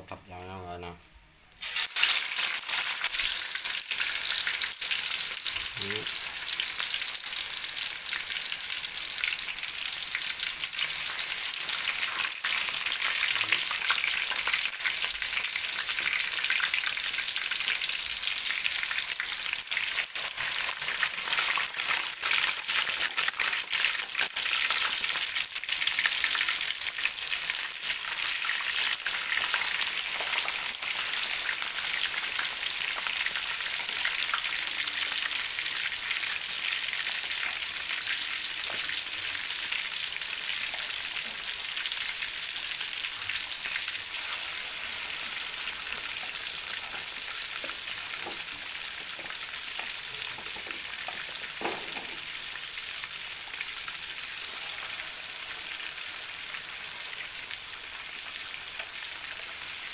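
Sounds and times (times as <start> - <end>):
chicken frying in hot oil: 1.6 - 59.9.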